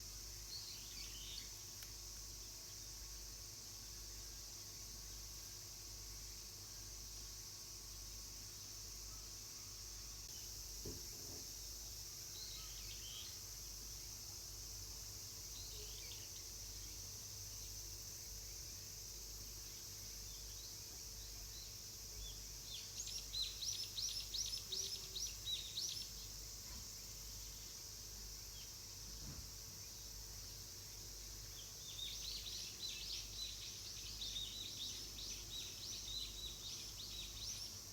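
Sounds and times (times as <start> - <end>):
steady high hiss: 0.0 - 37.9.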